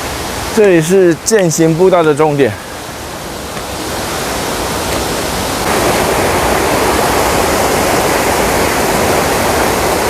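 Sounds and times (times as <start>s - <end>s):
rushing water of stream: 0.0s - 10.0s.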